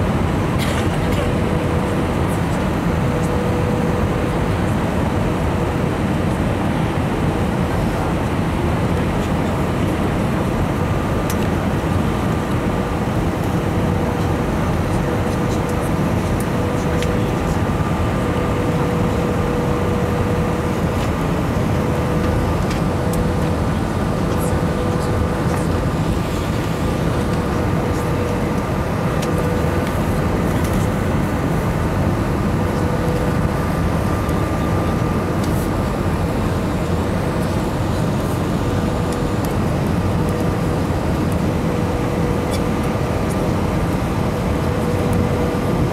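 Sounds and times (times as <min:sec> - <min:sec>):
jet engine and airflow rumble: 0:00.0 - 0:45.9.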